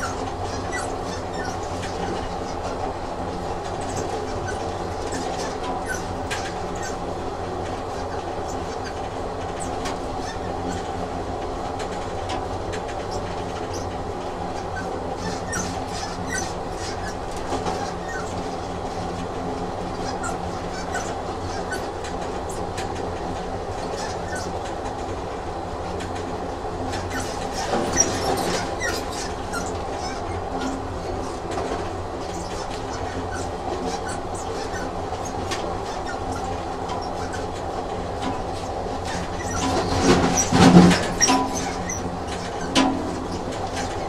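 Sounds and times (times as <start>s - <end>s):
train rattle: 0.0s - 44.0s
train running with hum: 0.0s - 44.0s
wheel and track clicks: 0.0s - 44.0s.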